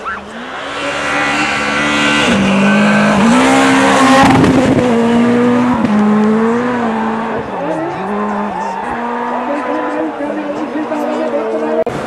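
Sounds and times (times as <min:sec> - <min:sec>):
rally car engine approaching: 0:00.0 - 0:12.0.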